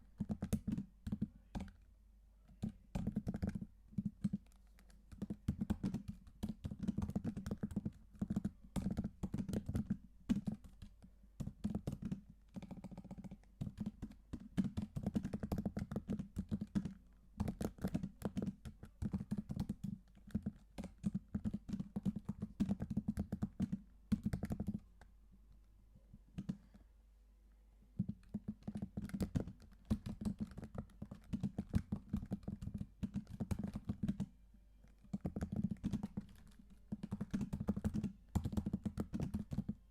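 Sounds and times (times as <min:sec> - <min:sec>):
computer keyboard typing: 0:00.2 - 0:01.8, 0:02.6 - 0:24.8, 0:28.0 - 0:39.9.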